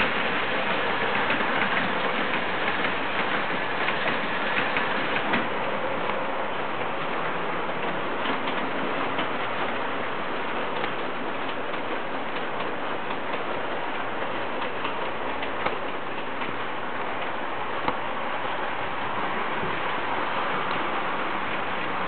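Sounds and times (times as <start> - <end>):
wheels clicking over track joints: 0.0 - 18.1
model train rolling: 0.0 - 22.0.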